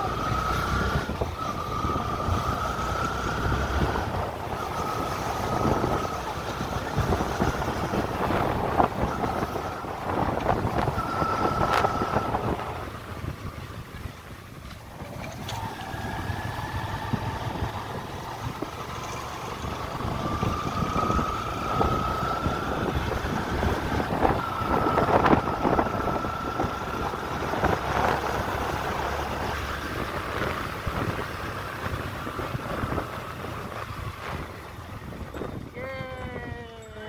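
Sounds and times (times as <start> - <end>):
motorcycle engine running: 0.0 - 36.8
wind buffeting microphone: 0.0 - 37.0.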